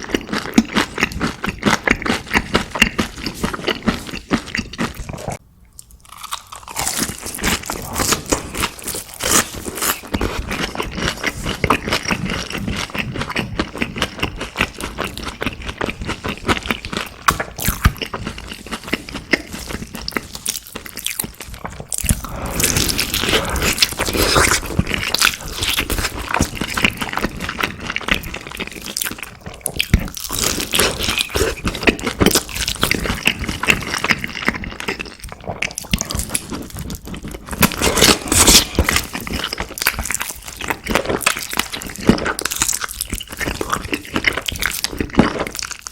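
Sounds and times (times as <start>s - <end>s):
person chewing crisp fried food: 0.0s - 45.9s.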